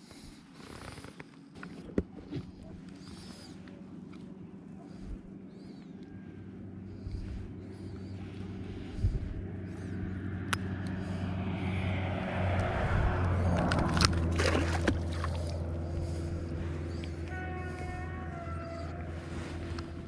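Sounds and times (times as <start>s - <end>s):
vehicle engine passing: 2.6s - 20.0s.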